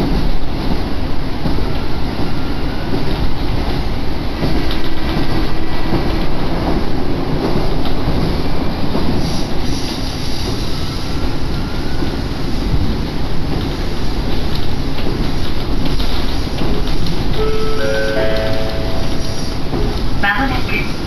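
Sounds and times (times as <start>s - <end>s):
railcar engine and wheels rumbling: 0.0s - 21.0s.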